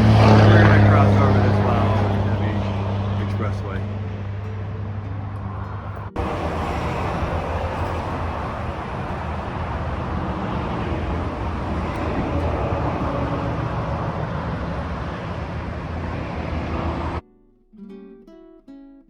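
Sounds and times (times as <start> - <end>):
heavy highway traffic: 0.0 - 17.2.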